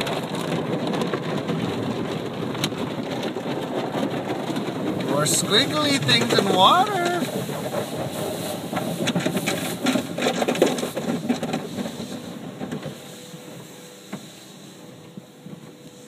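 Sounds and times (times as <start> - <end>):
car wash brushes slapping car: 0.0 - 16.0.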